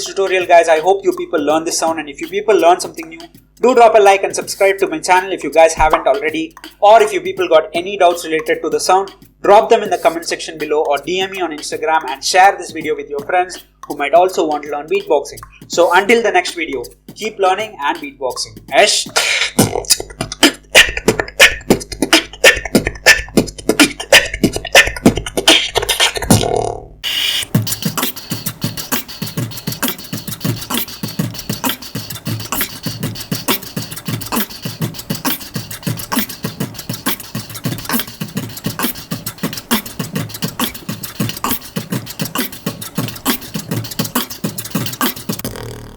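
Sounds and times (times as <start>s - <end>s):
beatboxing: 0.0s - 45.9s.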